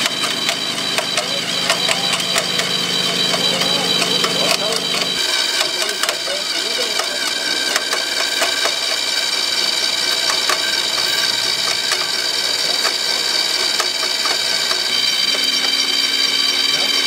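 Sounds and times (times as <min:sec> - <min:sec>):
clicks: 0:00.0 - 0:16.0
small electric motors whining: 0:00.0 - 0:17.0.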